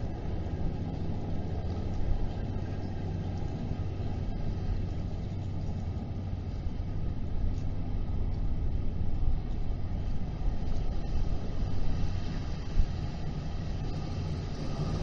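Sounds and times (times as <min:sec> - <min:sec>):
distant engines and traffic: 0:00.0 - 0:15.0.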